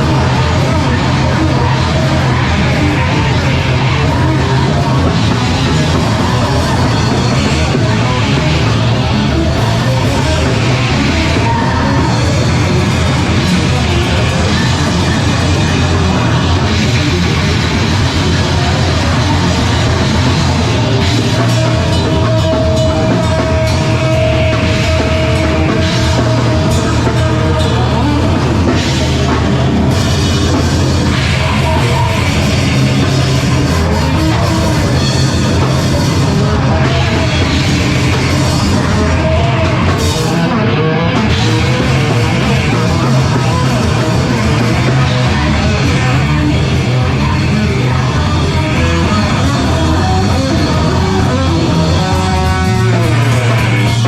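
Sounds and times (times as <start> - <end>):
live heavy rock band: 0.0 - 54.0.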